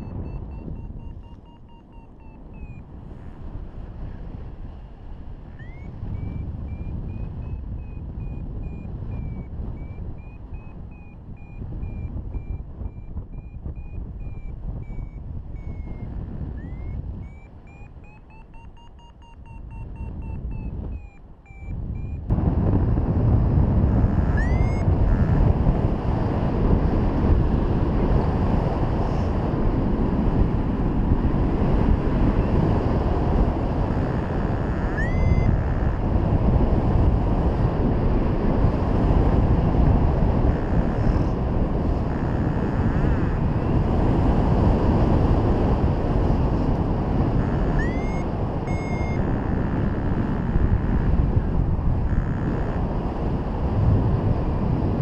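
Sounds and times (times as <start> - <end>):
variometer beeping: 0.0 - 3.5, 5.4 - 29.3, 30.3 - 52.9
wind rushing on microphone: 0.0 - 55.0.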